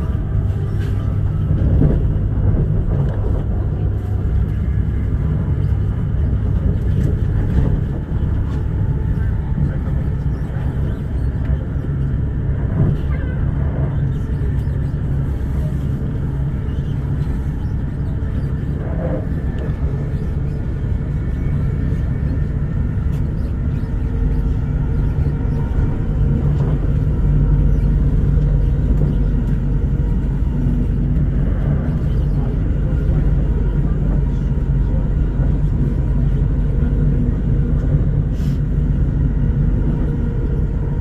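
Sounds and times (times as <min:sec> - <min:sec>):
low hum: 0:00.0 - 0:41.0
train wheels rumbling: 0:00.0 - 0:41.0.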